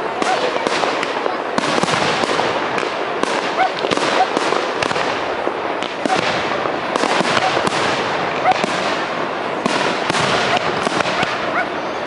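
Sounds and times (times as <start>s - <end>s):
fireworks crackling: 0.0s - 12.0s
fireworks sharp bangs: 0.0s - 12.0s.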